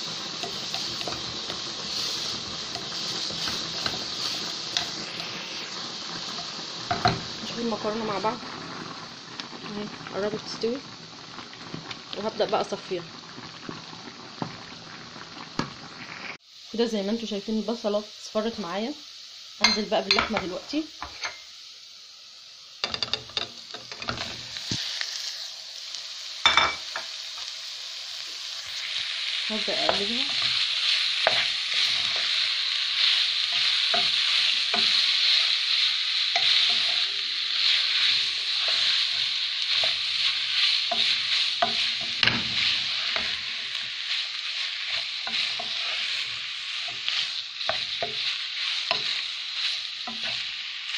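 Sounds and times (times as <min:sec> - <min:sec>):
onion sizzling in a pot: 0:00.0 - 0:50.9.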